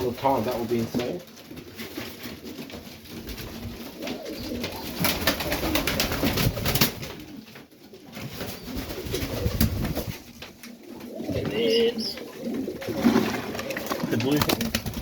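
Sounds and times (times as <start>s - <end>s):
pigeons cooing: 0.3s - 15.0s.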